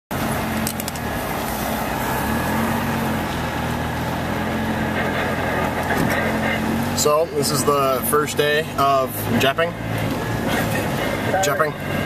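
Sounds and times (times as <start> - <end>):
car engine running inside cab: 0.1 - 12.0.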